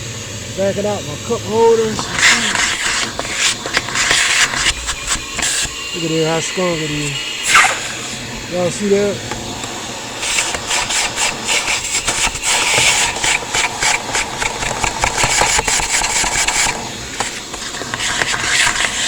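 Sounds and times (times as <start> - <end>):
nozzle scraping car interior: 0.0 - 19.0
vacuum cleaner running: 0.0 - 19.0.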